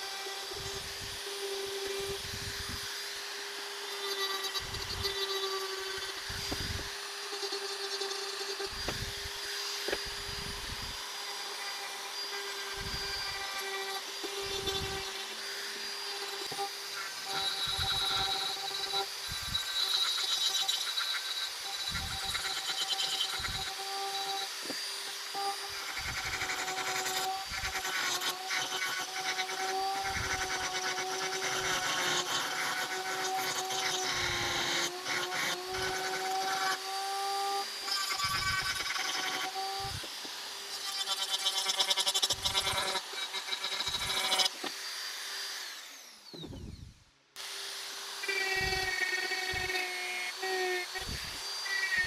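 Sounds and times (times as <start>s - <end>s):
bit grinding wood: 0.0s - 46.8s, 48.0s - 52.0s
rotary tool whining: 0.0s - 52.0s.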